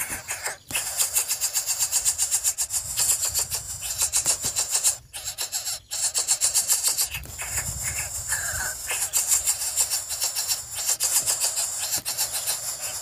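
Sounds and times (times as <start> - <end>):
nestlings harsh rasping calls: 0.0 - 13.0.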